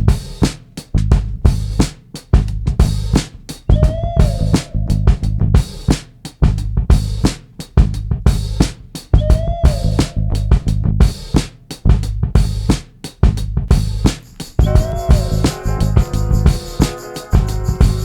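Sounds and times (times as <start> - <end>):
drum beat with bass line: 0.0 - 18.0.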